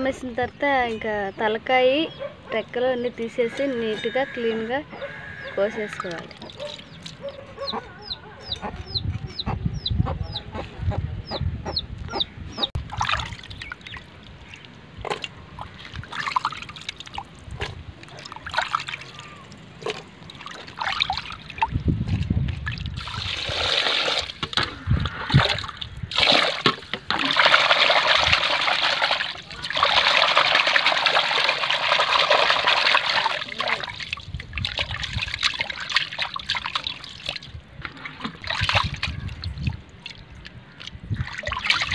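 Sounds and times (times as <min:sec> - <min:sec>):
water sloshing and splashing: 0:03.2 - 0:07.6, 0:12.8 - 0:41.9.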